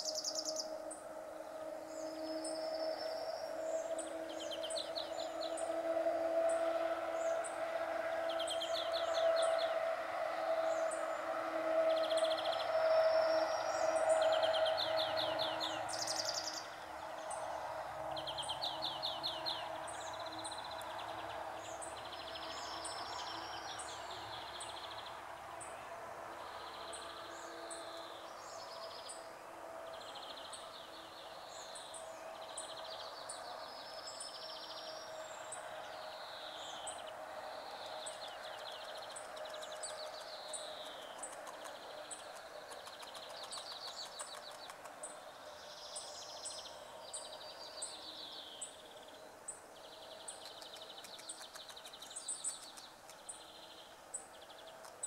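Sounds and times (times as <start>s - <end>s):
birds singing buzzy trills: 0.0s - 55.0s.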